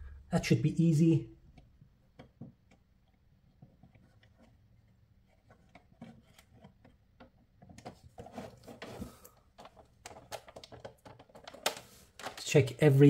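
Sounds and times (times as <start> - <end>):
plastic clicks and rubs: 1.4 - 12.6.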